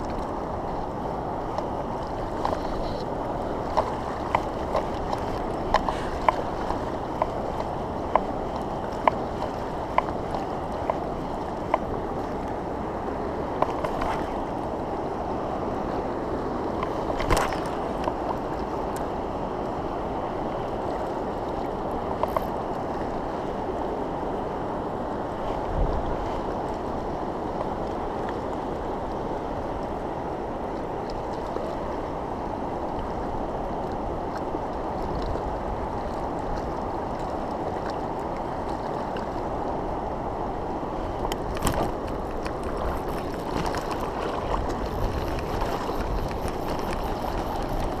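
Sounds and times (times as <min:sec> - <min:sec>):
river current rushing: 0:00.0 - 0:48.0.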